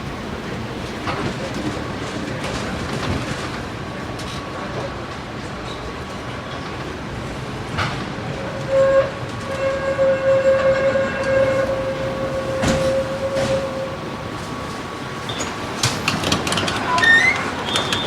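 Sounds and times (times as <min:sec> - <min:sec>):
tram rumbling on rails: 0:00.0 - 0:18.0.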